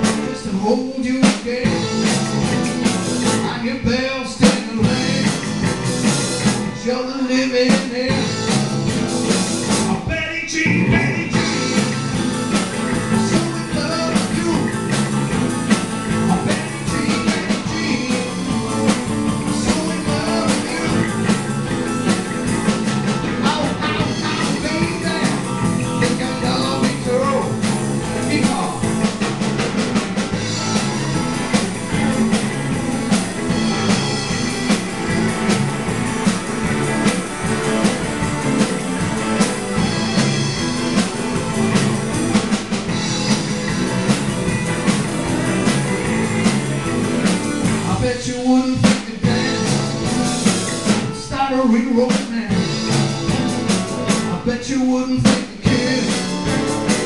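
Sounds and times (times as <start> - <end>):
blues-rock band playing: 0.0 - 57.0.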